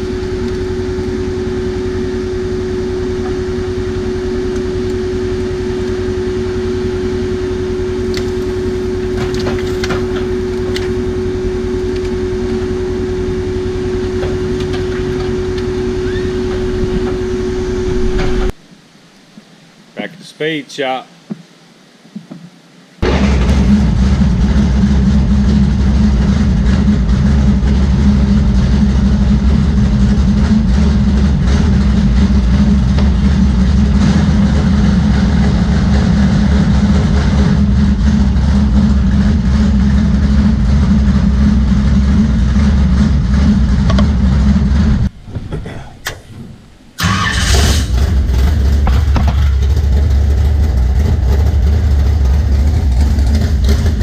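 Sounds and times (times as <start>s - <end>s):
car engine running: 0.0s - 18.6s, 23.0s - 54.0s.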